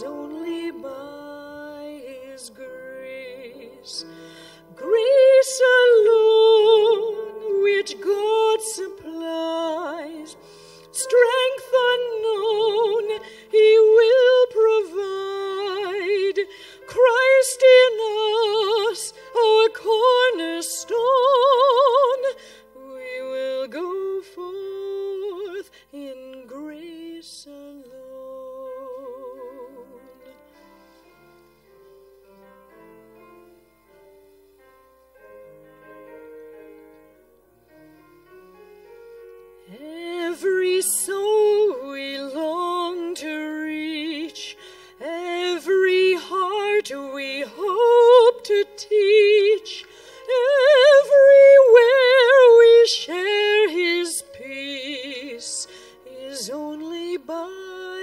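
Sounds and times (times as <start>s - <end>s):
woman singing with vibrato: 0.0s - 30.3s, 39.7s - 58.0s.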